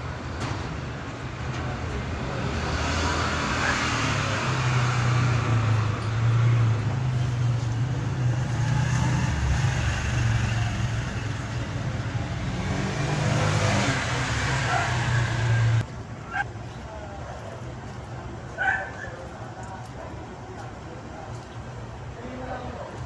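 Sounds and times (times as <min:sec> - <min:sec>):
background noise: 0:00.0 - 0:23.0.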